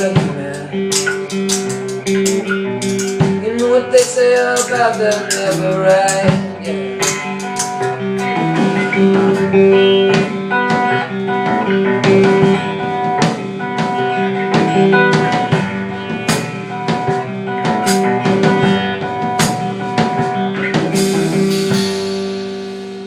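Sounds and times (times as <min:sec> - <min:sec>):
drum kit: 0:00.0 - 0:23.0
guitar sustained notes: 0:00.0 - 0:23.0.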